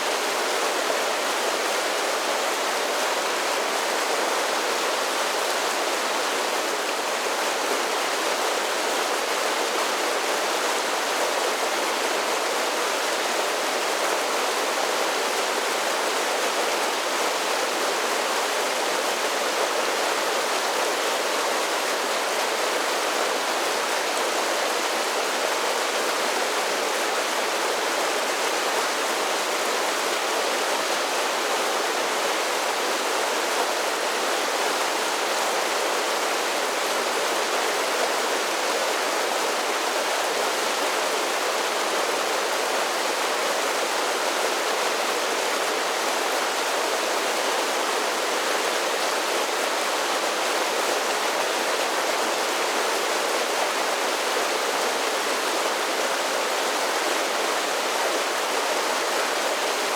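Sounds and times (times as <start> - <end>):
creek rushing over waterfalls: 0.0 - 59.9.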